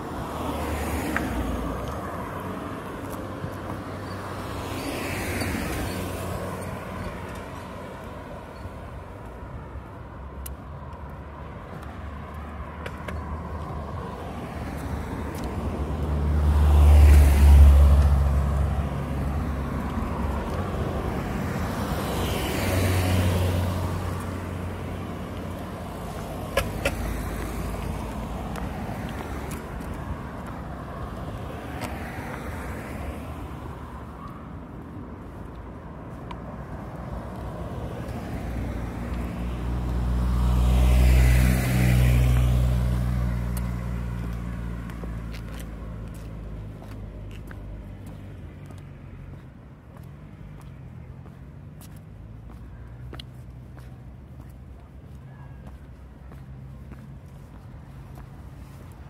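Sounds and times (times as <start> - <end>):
cars passing on road: 0.0 - 59.0.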